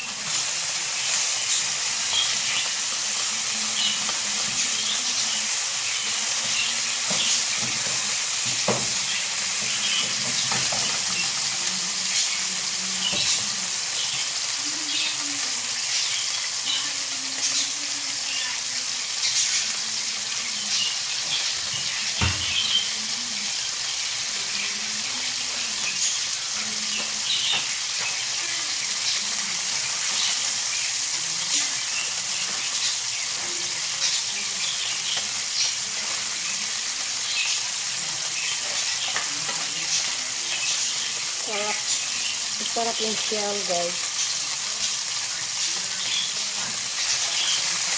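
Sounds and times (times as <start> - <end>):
shellfish sizzling in a pan: 0.0 - 47.9.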